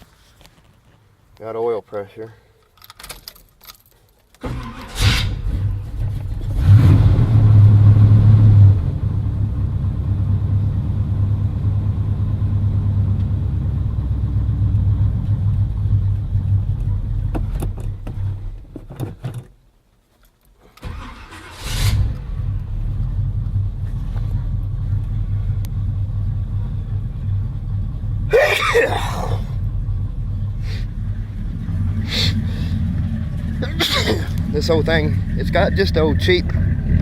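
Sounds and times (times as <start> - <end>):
truck engine cranking and idling: 2.6 - 19.8, 20.6 - 37.0.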